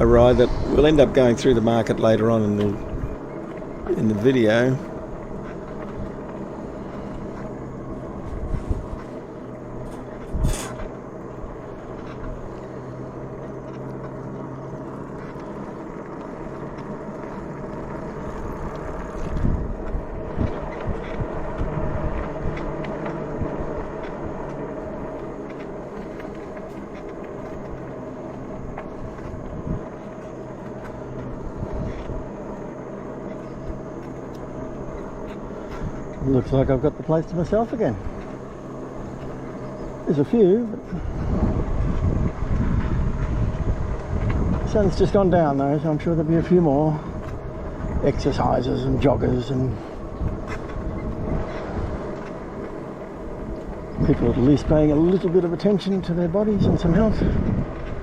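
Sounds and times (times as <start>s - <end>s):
electric bike humming: 0.0s - 58.0s.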